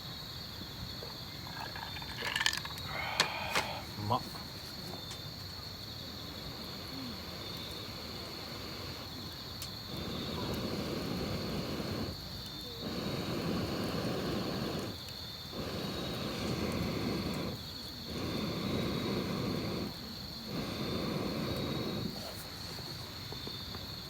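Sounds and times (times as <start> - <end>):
high insect trill: 0.0 - 24.0
air blown into campfire: 1.3 - 4.8, 5.9 - 24.0.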